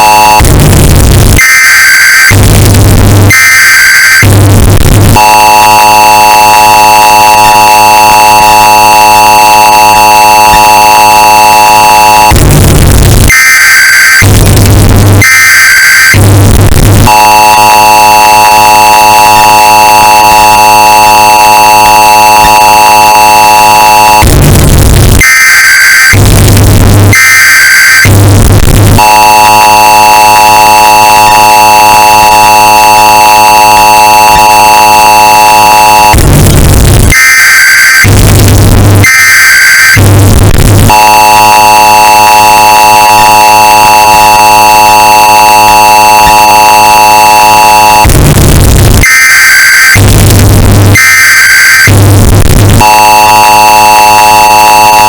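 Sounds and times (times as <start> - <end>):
buzzing data bursts: 0.0 - 55.0
distorted two-tone alert signal: 0.0 - 55.0.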